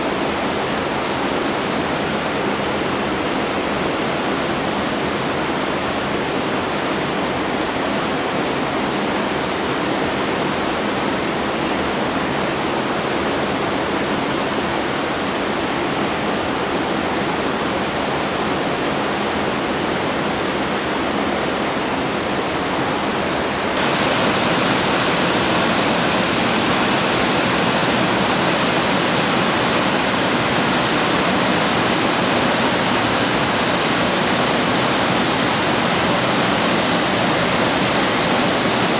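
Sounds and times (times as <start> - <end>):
river water rushing over a weir: 0.0 - 38.9.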